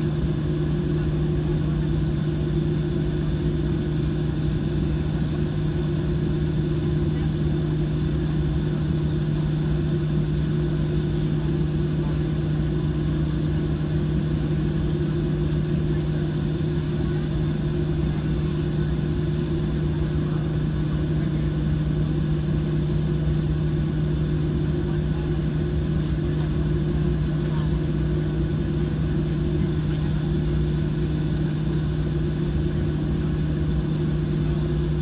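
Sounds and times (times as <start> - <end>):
jet engines idling in cabin: 0.0 - 35.0.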